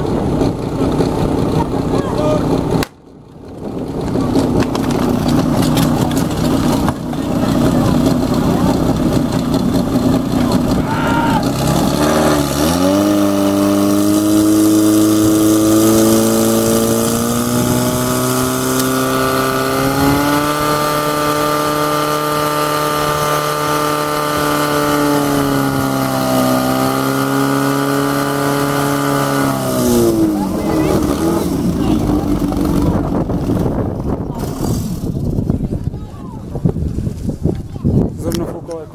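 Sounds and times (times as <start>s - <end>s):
pump engine revving: 0.0s - 35.6s.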